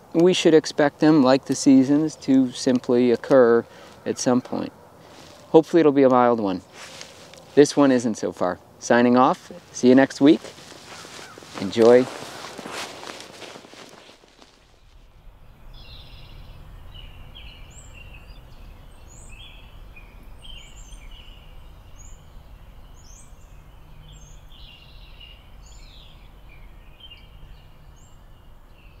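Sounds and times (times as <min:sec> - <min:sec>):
small birds chirping: 0:00.3 - 0:29.0
low forest rumble: 0:02.1 - 0:29.0.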